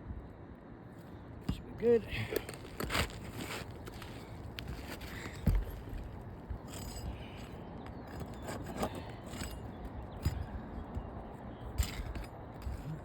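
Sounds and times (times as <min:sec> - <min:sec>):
knocks and scrapes on shingle roof: 0:02.3 - 0:13.0.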